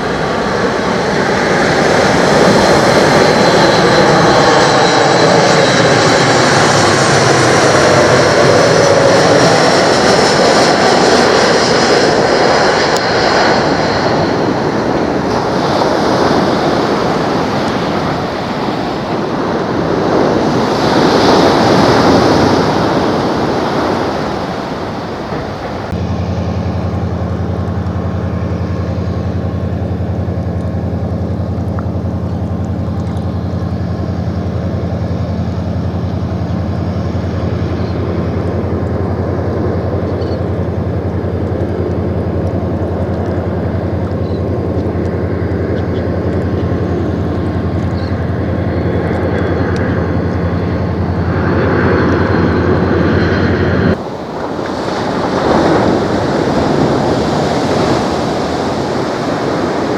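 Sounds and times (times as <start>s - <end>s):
jet engine roar: 0.0s - 59.9s
low droning hum: 0.0s - 59.9s.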